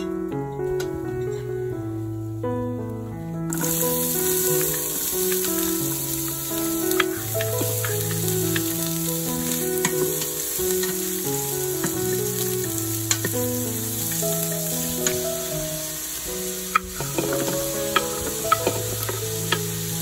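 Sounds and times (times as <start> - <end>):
background music with held notes: 0.0 - 20.0
onion sizzling in a pot: 3.4 - 20.0.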